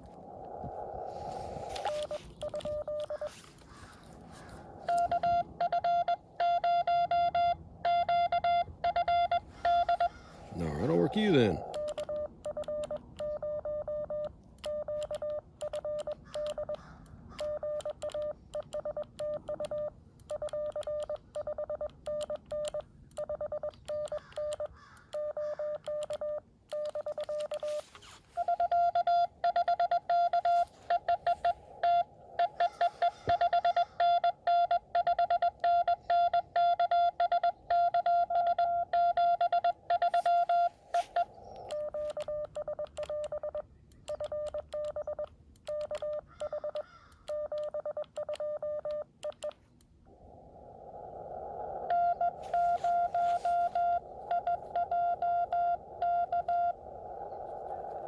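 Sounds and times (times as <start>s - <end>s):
morse code beeps: 1.3s - 3.5s, 4.4s - 16.8s, 17.4s - 49.6s, 51.9s - 58.0s.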